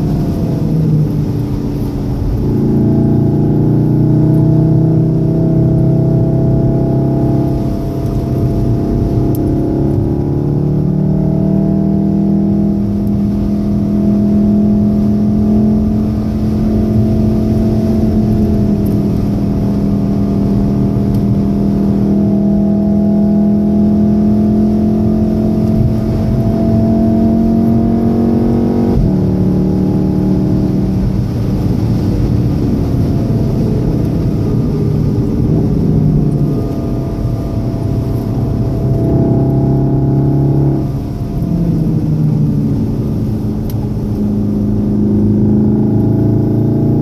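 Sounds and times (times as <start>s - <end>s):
car engine under load: 0.0s - 47.0s.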